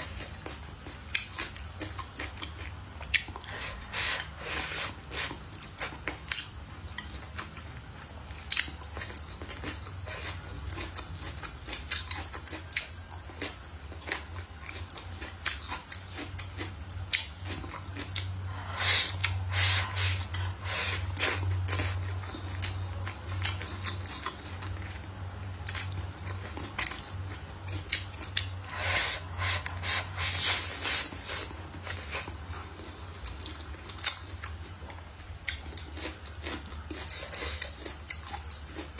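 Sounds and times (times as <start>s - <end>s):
chewing and biting food: 0.0s - 38.9s
steady low hum: 0.0s - 38.9s.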